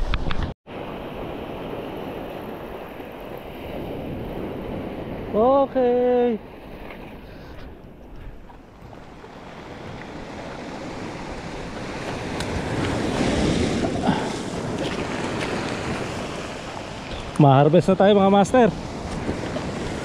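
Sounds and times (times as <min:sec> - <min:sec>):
surf washing onto cobble beach: 0:00.7 - 0:07.2, 0:08.8 - 0:20.0.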